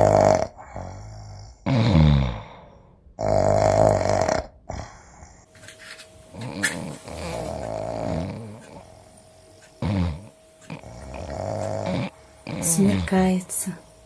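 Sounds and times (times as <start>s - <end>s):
person snoring: 0.0s - 5.4s, 6.3s - 9.0s, 9.8s - 13.2s.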